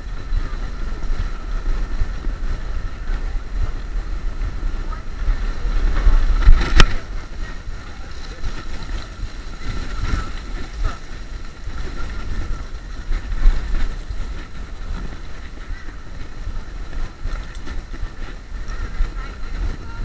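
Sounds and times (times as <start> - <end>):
faint steady whine: 0.0 - 20.0
low road rumble: 0.0 - 20.0
wind buffeting microphone: 0.0 - 20.0.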